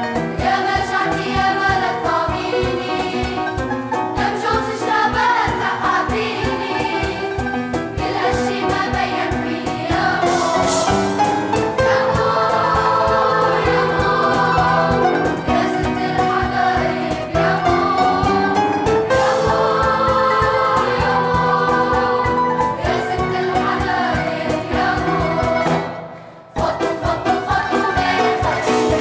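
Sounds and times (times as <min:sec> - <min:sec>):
cajon tapping a beat: 0:00.0 - 0:25.8
grand piano: 0:00.0 - 0:29.0
choir singing: 0:00.3 - 0:29.0.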